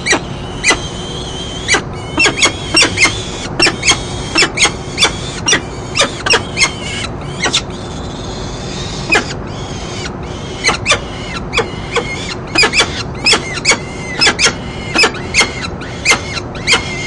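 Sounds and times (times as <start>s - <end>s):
falcon chipping calls: 0.0s - 17.0s.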